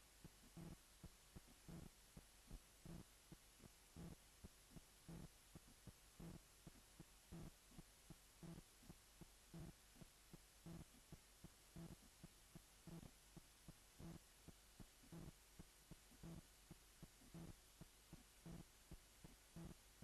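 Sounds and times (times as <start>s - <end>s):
heartbeat: 0.0s - 20.0s.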